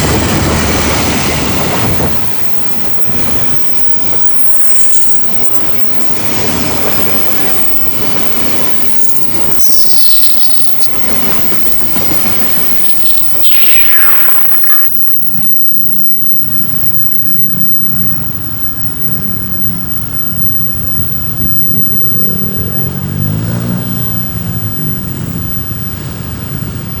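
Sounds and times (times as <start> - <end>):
road vehicle engines running: 0.0 - 27.0.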